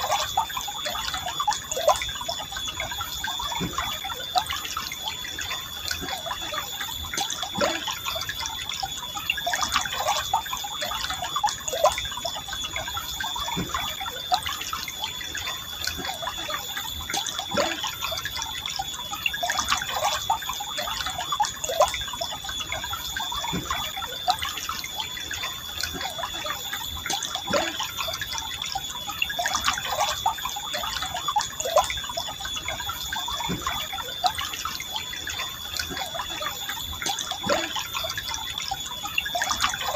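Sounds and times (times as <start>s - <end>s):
stream flowing: 0.0s - 39.9s
thin high tone: 0.0s - 39.9s.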